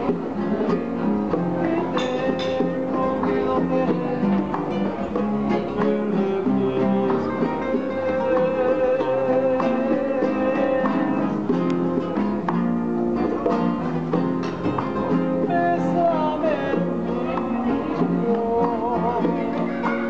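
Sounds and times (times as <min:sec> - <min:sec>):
man singing: 0:00.0 - 0:12.5, 0:15.3 - 0:20.0
acoustic guitars playing: 0:00.0 - 0:20.0
bongos: 0:00.0 - 0:20.0.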